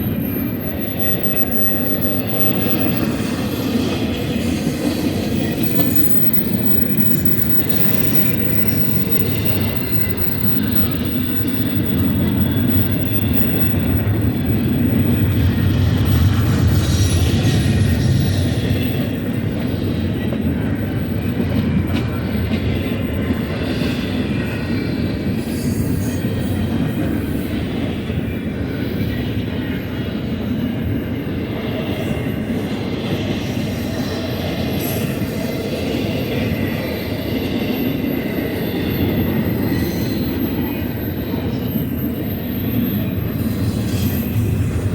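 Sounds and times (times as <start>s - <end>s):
high wheel squeals: 0.0s - 44.9s
train wheels rumbling on rail: 0.0s - 44.9s.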